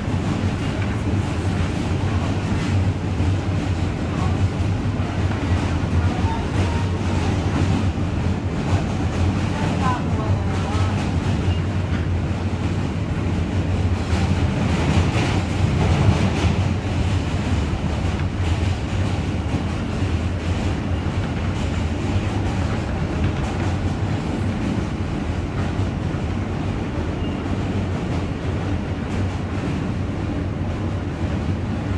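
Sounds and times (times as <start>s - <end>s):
subway train wheels rumbling on rails: 0.0s - 31.9s.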